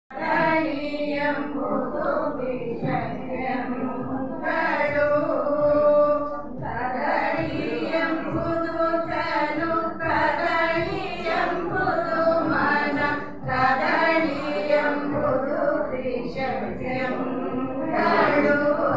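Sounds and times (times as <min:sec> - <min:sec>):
women singing together: 0:00.1 - 0:18.9.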